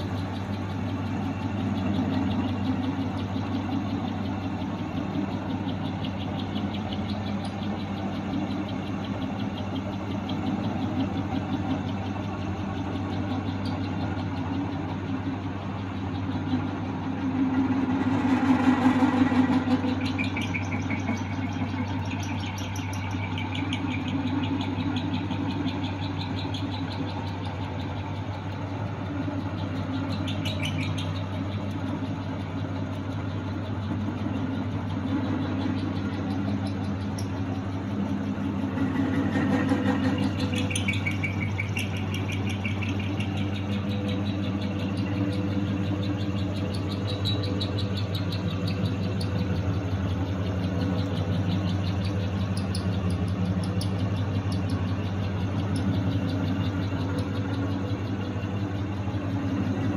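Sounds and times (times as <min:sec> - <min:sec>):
belts and pulleys whirring: 0:00.0 - 0:59.9.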